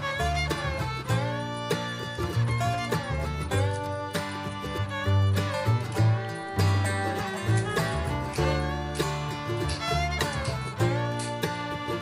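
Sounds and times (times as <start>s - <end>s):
instrumental music with pulsing bass: 0.0s - 12.0s.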